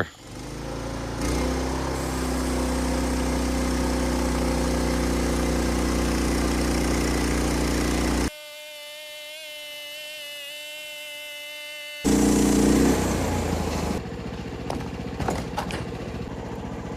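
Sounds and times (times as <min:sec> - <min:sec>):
bandsaw mill cutting log: 0:00.2 - 0:08.4, 0:09.2 - 0:16.9.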